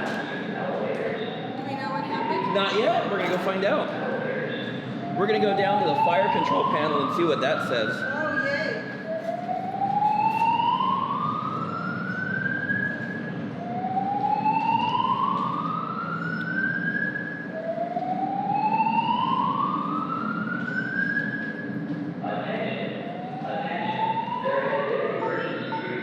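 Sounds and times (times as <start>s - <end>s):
fire alarm whoop tone: 0.0s - 22.0s, 23.0s - 26.0s.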